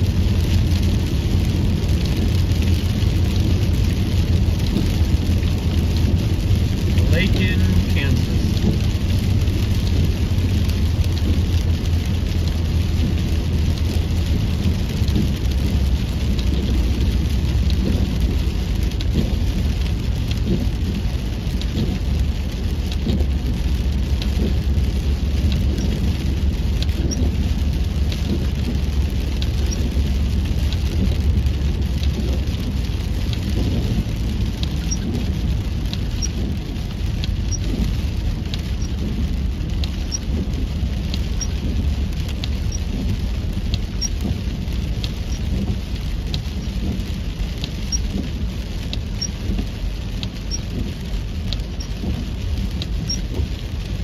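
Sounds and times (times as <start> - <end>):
low car rumble: 0.0 - 54.0
rain on car windshield: 0.0 - 54.0.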